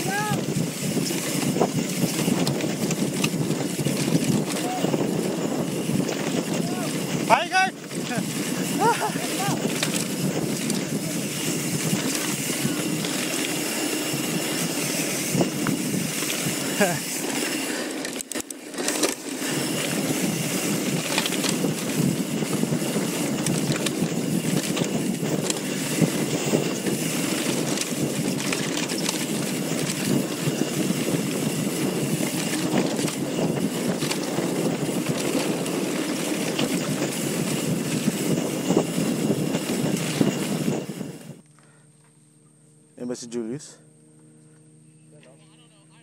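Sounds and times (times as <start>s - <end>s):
wind rushing: 0.0s - 17.8s, 19.2s - 41.3s
bike rattles and knocks: 0.0s - 41.4s.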